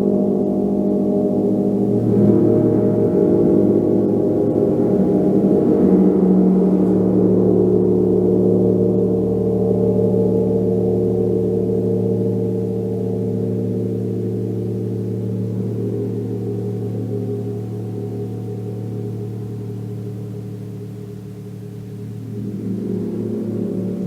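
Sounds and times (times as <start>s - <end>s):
gong ringing: 0.0s - 24.0s.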